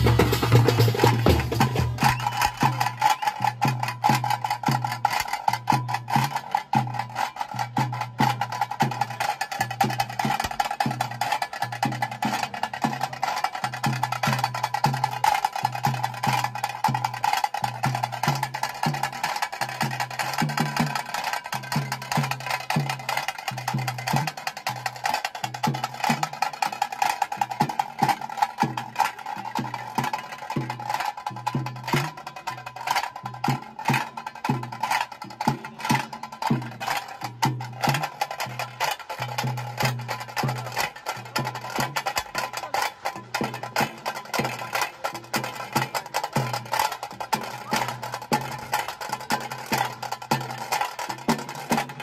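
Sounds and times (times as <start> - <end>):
drums played with sticks: 0.0 - 52.0.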